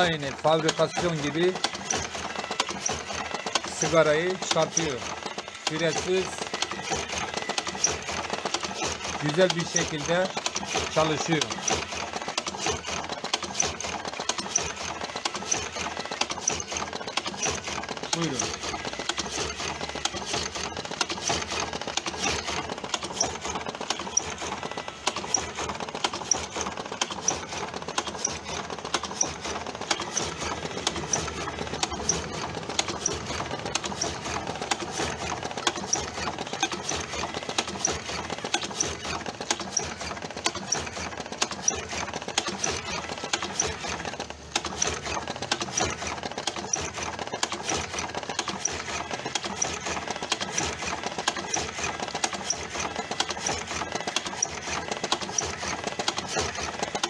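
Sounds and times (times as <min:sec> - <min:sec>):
filling machine mechanical clatter: 0:00.0 - 0:57.0.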